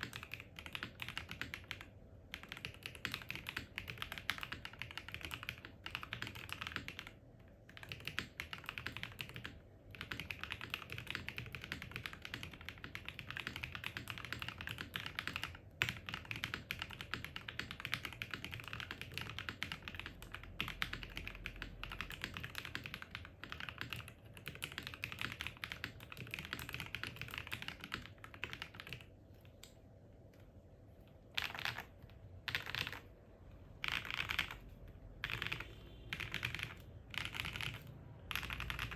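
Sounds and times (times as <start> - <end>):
mechanical keyboard typing: 0.0 - 29.8, 31.3 - 38.9.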